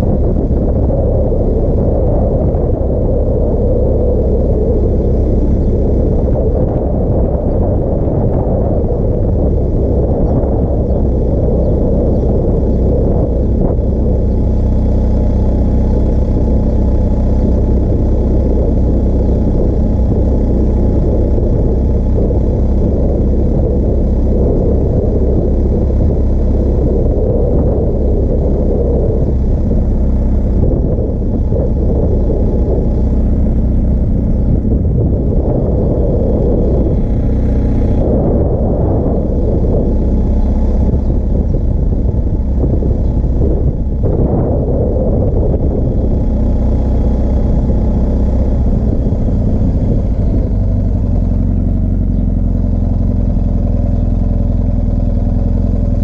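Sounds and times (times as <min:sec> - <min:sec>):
motorcycle engine rumbling: 0:00.0 - 0:56.0
rushing wind noise: 0:00.0 - 0:56.0.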